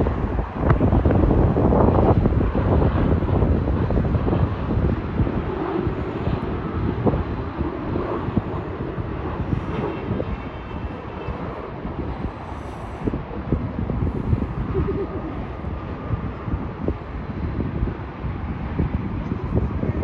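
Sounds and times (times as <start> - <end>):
jet engines rushing: 0.0 - 20.0
wind gusting on microphone: 0.0 - 20.0.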